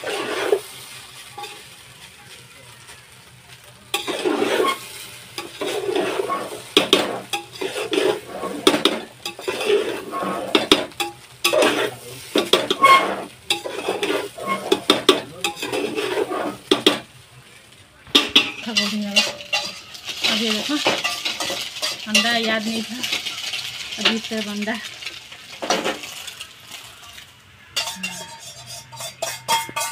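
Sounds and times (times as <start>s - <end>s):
metal spatula scraping a pot: 0.0s - 1.8s, 3.9s - 17.0s, 18.2s - 29.9s.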